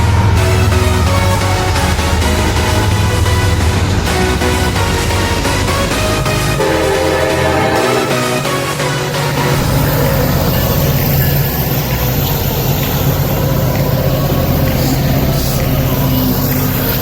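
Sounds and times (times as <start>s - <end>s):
locomotive engine running: 0.0s - 17.0s.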